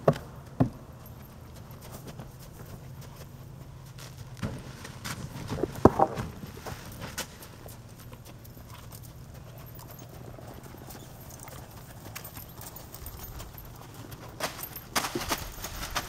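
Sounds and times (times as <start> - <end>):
horse hooves on sand: 0.0 - 16.0.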